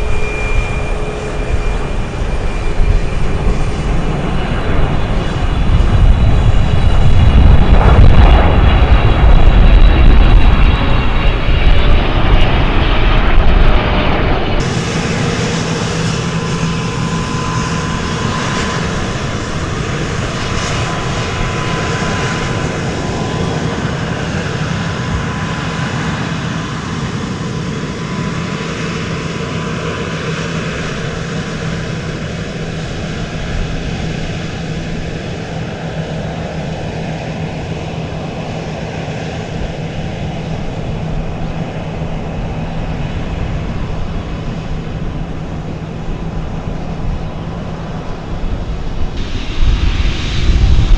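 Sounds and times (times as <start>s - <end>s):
airplane engine rush with whine: 0.0s - 50.9s.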